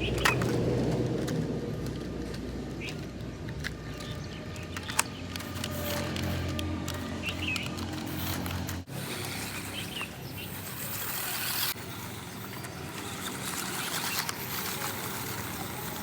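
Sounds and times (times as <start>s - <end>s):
toy truck motor whirring: 0.0s - 16.0s.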